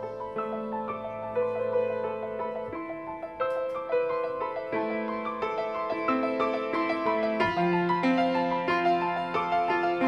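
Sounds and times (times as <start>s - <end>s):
solo piano melody: 0.0s - 10.0s.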